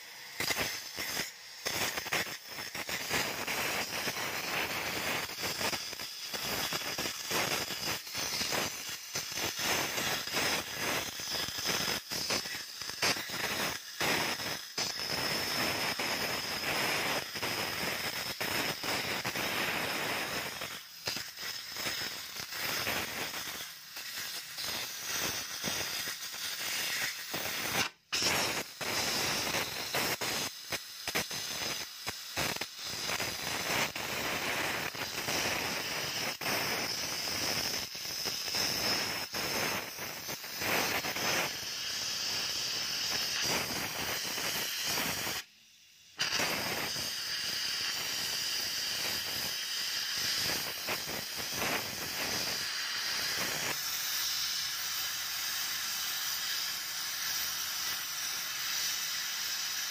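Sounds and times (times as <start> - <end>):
gas cutting torch hissing: 0.0 - 59.9.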